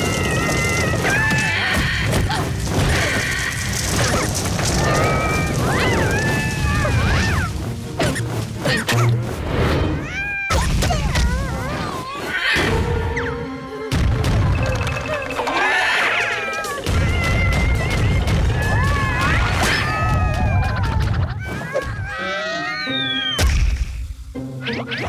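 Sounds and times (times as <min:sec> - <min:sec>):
cartoon soundtrack music: 0:03.9 - 0:25.0.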